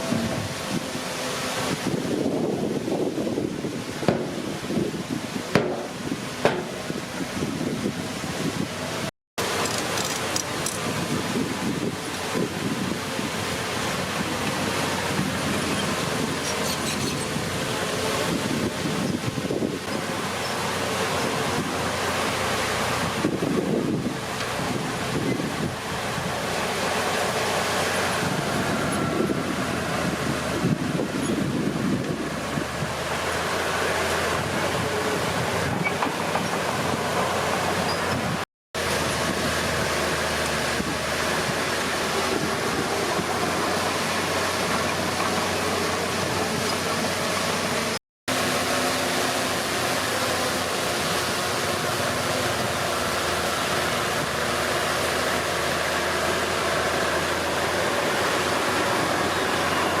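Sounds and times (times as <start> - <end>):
bulldozer diesel engine running: 8.7 - 60.0.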